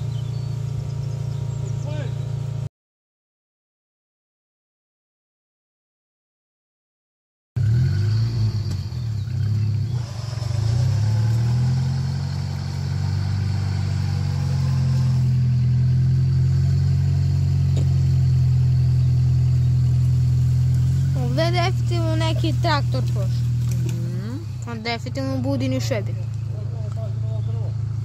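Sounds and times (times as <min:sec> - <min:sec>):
vehicle engine running at low revs: 0:00.0 - 0:02.7, 0:07.6 - 0:28.0.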